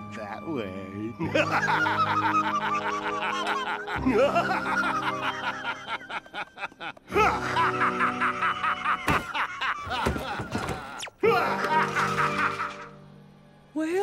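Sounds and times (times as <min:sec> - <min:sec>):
background music: 0:00.0 - 0:14.0
old man laughing hard: 0:01.2 - 0:13.0.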